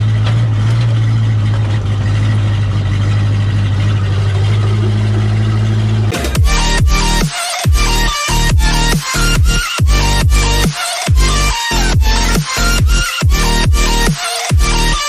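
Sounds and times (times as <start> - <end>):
bulldozer diesel engine idling: 0.0 - 14.0
electronic music with bass sweeps: 2.8 - 15.0.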